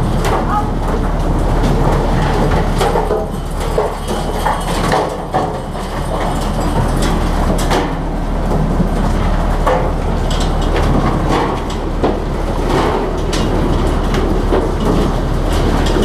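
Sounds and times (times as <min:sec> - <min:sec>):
diesel engine droning: 0:00.0 - 0:16.0
knocks and clatters: 0:00.0 - 0:16.0.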